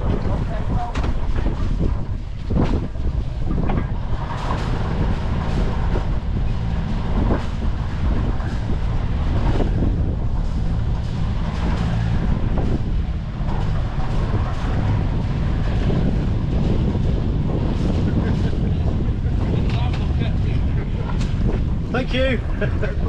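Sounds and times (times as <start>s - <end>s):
boat engine running: 0.0s - 23.0s
wind gusting over microphone: 0.0s - 23.0s.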